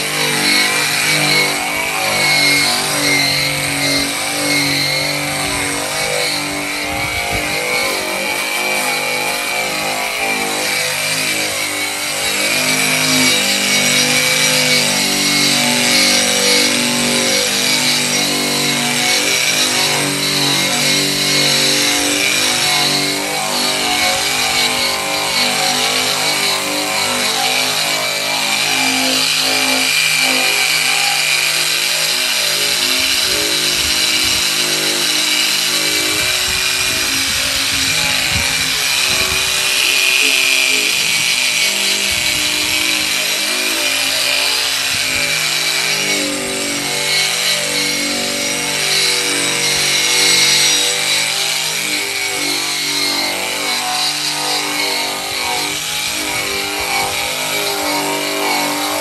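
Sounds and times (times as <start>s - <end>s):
bristle drum grinding steel: 0.0s - 58.8s.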